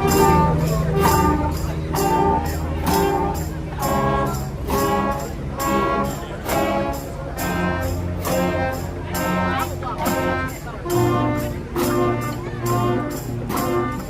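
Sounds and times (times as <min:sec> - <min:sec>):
drums and cymbals: 0:00.0 - 0:14.0
marching band brass chords: 0:00.0 - 0:14.0.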